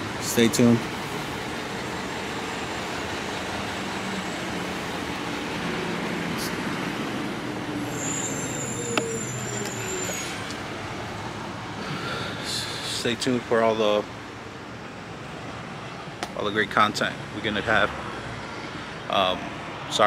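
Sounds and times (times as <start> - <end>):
road traffic rushing: 0.0 - 20.0.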